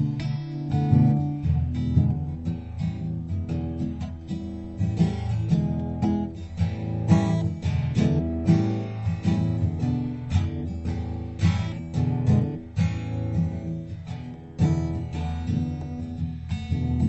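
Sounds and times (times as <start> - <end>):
acoustic guitar picking and strumming: 0.0 - 17.0.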